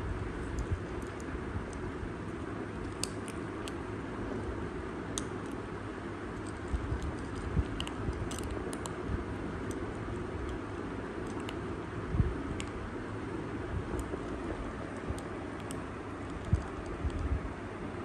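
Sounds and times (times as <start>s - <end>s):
low background noise: 0.0s - 18.0s
kittens crunching dry kibble: 0.3s - 5.7s, 6.3s - 11.7s, 13.8s - 17.4s.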